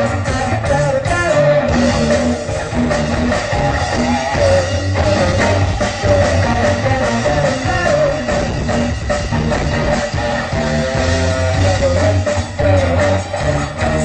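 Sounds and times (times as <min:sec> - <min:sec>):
loud band music with guitar: 0:00.0 - 0:14.0.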